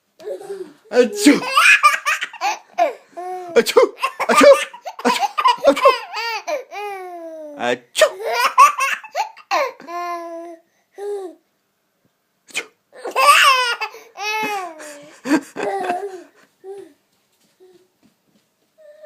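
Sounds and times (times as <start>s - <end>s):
baby laughing and babbling: 0.2s - 11.4s, 13.0s - 17.0s.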